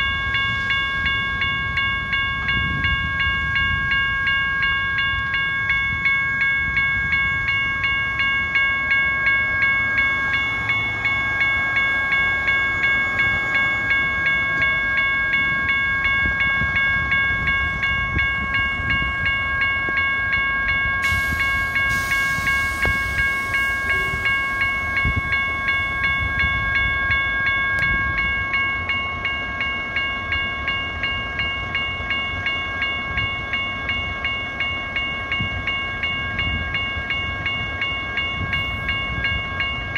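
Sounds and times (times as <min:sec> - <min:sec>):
crossing warning bell ringing: 0:00.0 - 0:39.9
train rumbling past: 0:00.0 - 0:39.9.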